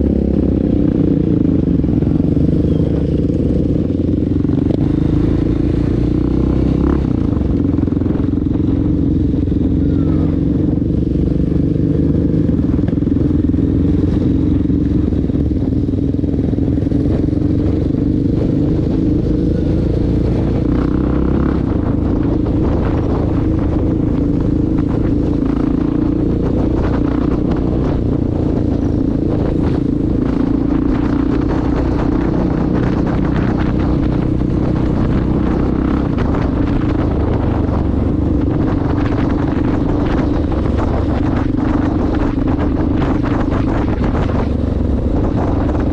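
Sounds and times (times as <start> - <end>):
dirt bike engine cruising: 0.0 - 45.9.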